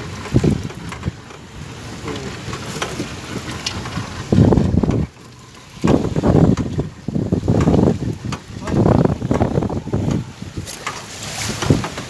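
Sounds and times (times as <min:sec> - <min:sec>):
boat noise: 0:00.0 - 0:12.0
sea noise: 0:00.0 - 0:12.0
wind buffeting microphone: 0:00.0 - 0:12.0.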